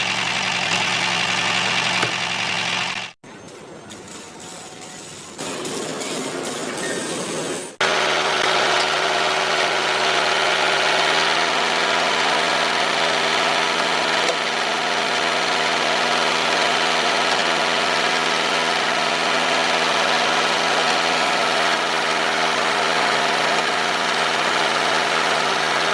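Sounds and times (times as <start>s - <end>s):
small motor running: 0.0s - 3.2s, 7.8s - 25.9s.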